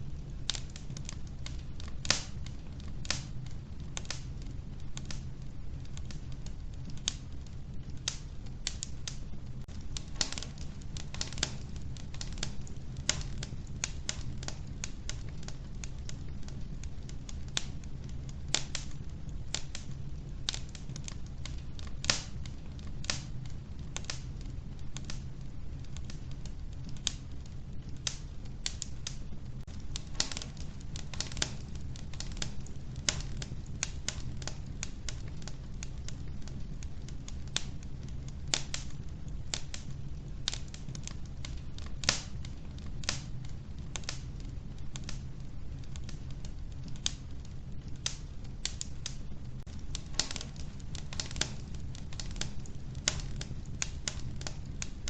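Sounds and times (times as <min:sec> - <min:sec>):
logs crackling and popping: 0:00.0 - 0:55.0
low rumble of flames: 0:00.0 - 0:55.0.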